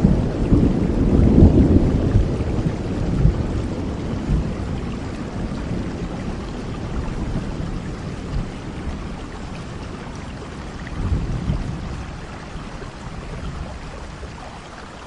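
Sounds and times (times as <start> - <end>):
distant thunder rumble: 0.0 - 15.0
steady rain: 0.0 - 15.0.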